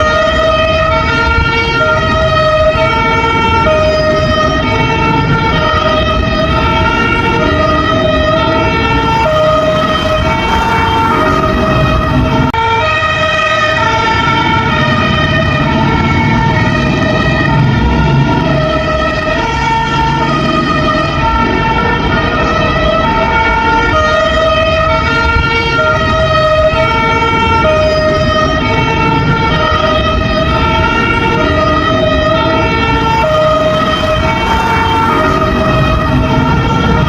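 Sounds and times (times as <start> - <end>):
fire truck two-tone siren: 0.0 - 37.0.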